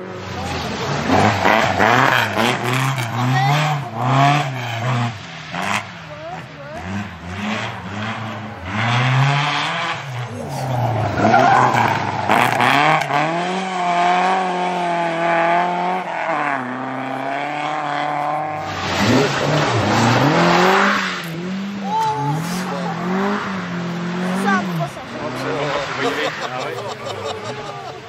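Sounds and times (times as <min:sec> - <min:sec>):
rally car engine revving: 0:00.0 - 0:28.0
tyre and road noise: 0:00.0 - 0:28.0.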